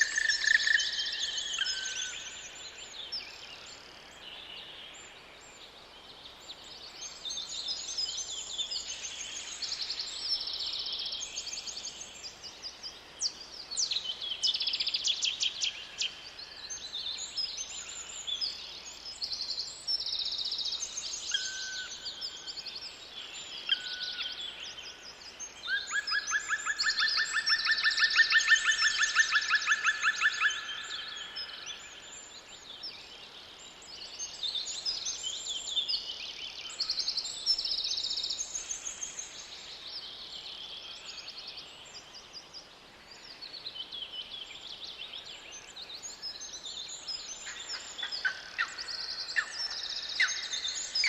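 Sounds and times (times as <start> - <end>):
birds chorus of trills and chirps: 0.0 - 51.0.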